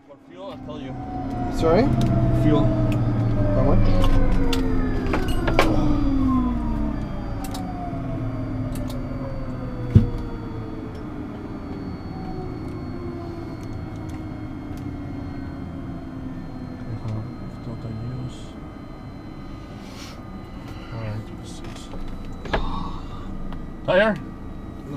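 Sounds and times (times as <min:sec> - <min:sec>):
turboprop engine spooling down: 0:00.3 - 0:24.9.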